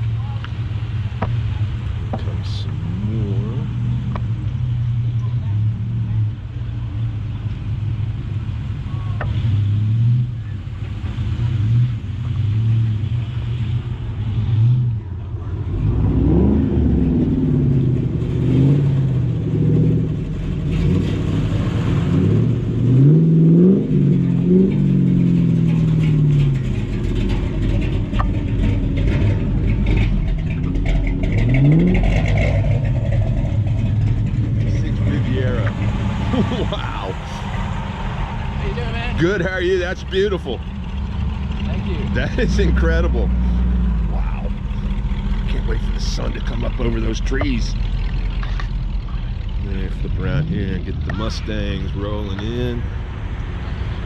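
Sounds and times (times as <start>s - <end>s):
car engines running: 0.0s - 54.0s.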